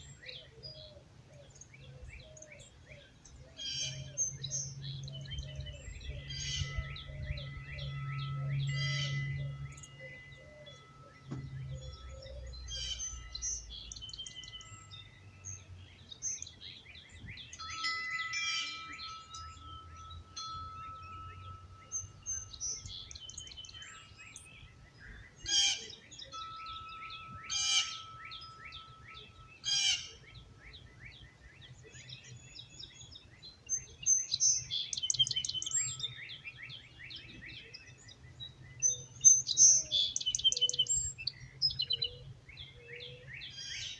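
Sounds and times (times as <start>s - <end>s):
loud bird calls: 0.0s - 43.9s
songbirds singing and chirping: 0.0s - 43.9s
wind chimes ringing: 3.7s - 42.4s.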